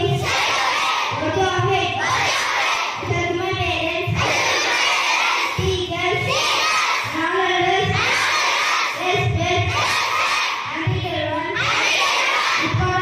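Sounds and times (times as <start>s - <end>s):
children singing in chorus: 0.0s - 13.0s.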